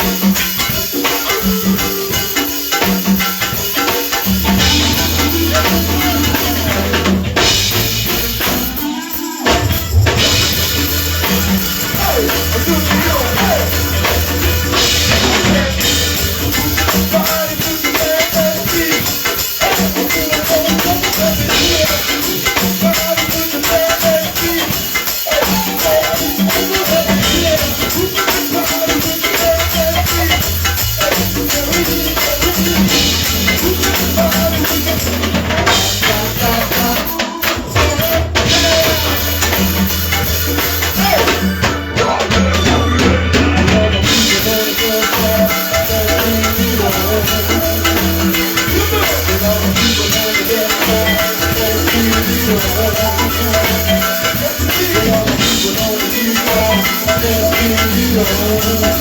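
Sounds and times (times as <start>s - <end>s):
live band music: 0.0s - 59.0s.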